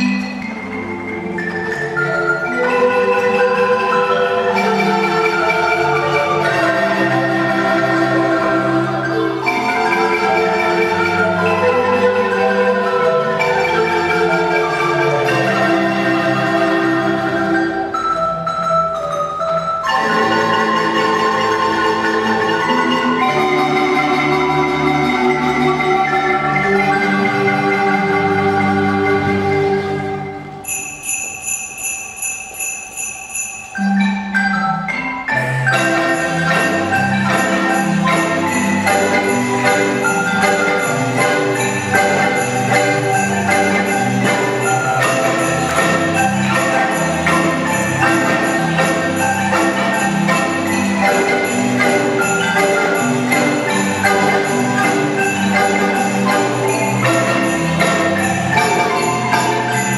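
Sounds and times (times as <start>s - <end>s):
small bells jingling: 0.0s - 27.7s, 30.6s - 59.9s
wooden marimbas playing: 0.0s - 59.9s.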